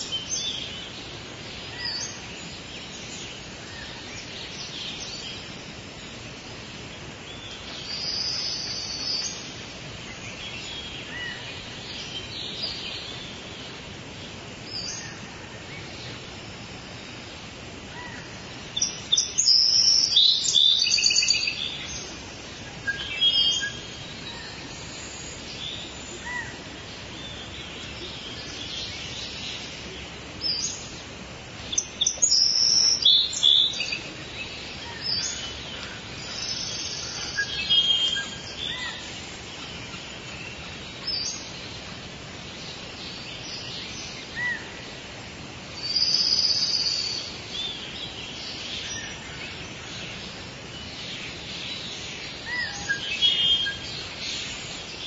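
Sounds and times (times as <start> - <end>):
birds singing and chirping: 0.0 - 55.0
steady background hiss: 0.0 - 55.0.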